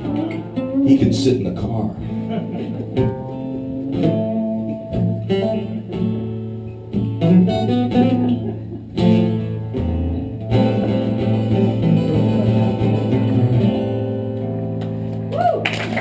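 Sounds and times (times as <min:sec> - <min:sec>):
slow blues guitar: 0:00.0 - 0:16.0.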